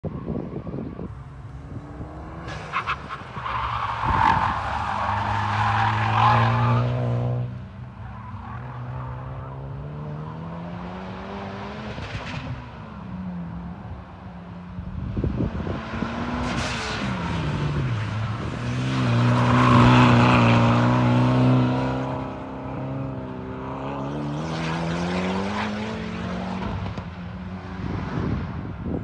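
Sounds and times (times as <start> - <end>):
car engine drone: 0.1 - 28.6.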